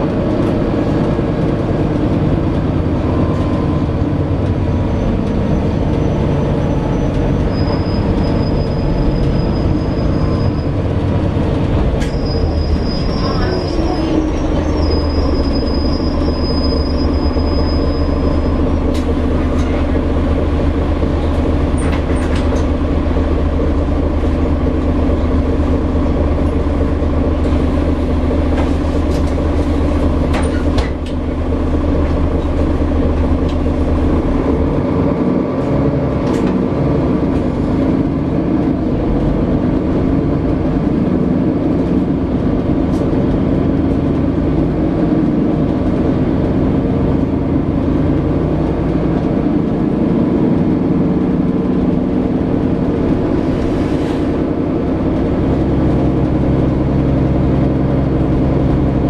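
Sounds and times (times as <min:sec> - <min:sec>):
bus diesel engine: 0:00.0 - 0:59.0
road noise: 0:00.0 - 0:59.0.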